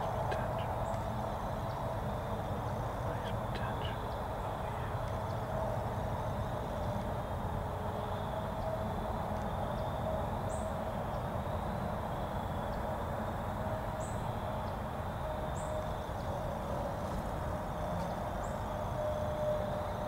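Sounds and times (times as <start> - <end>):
faint steady hum: 0.0 - 20.0
woodland background noise: 0.0 - 20.0.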